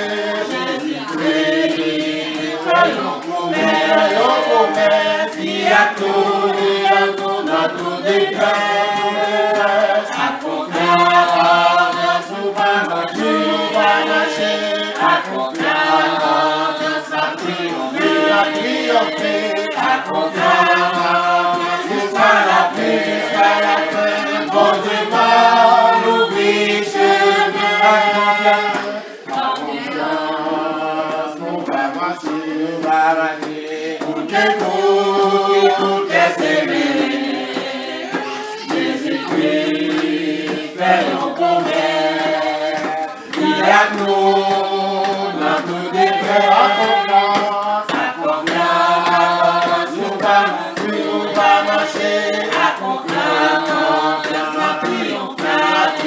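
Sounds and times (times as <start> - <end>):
group singing a cappella: 0.0 - 56.0.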